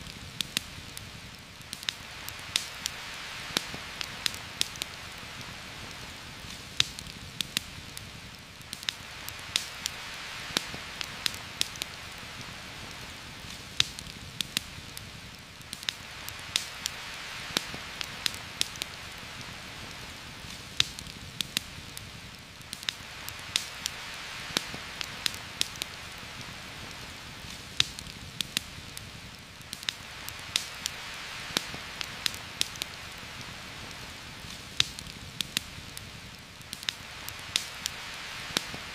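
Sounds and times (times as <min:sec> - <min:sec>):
campfire popping and crackling: 0:00.0 - 0:38.9
heavy rain falling: 0:00.0 - 0:38.9.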